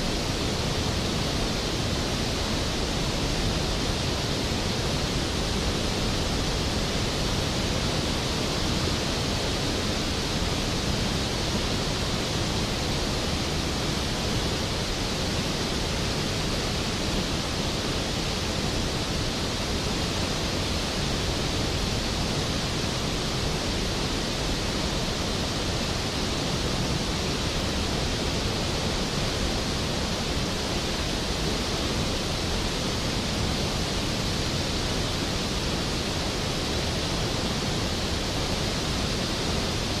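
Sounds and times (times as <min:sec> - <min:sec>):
waterfall pouring heavily: 0:00.0 - 0:40.0.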